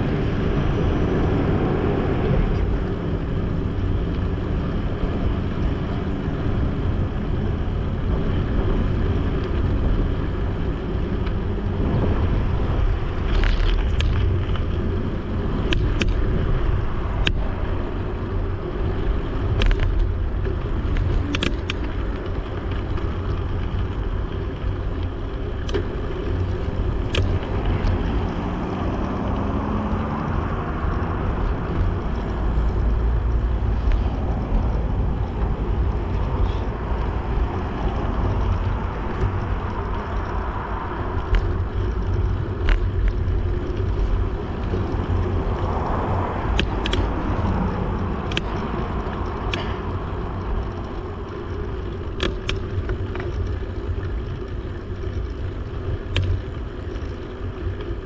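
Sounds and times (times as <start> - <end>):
bicycle rolling rumble: 0.0 - 58.0
road traffic passing: 0.0 - 58.0
bike rattling over paving blocks: 1.6 - 29.5, 30.5 - 58.0.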